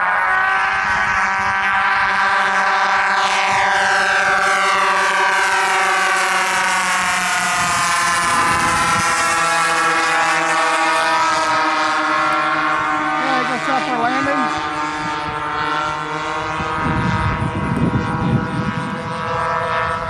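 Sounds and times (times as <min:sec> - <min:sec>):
model plane motors whining overhead: 0:00.0 - 0:20.0.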